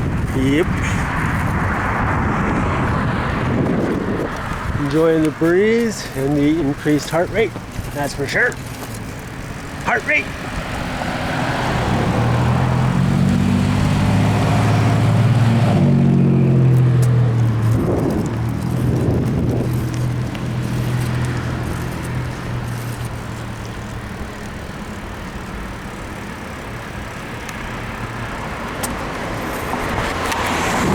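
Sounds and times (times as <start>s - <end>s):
road and wind noise: 0.0s - 30.9s
vehicle engine running: 0.0s - 30.9s.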